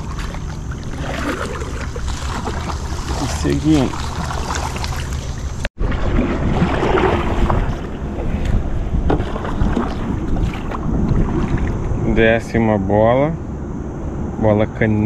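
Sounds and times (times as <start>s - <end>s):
water noise from paddled boat: 0.0s - 12.4s
wind rumbling on microphone: 0.0s - 15.0s.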